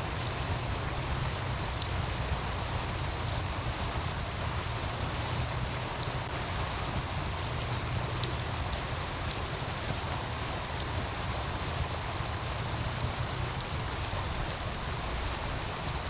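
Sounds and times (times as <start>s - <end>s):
stream rushing: 0.0s - 16.0s
wood fire crackling and popping: 0.0s - 16.0s.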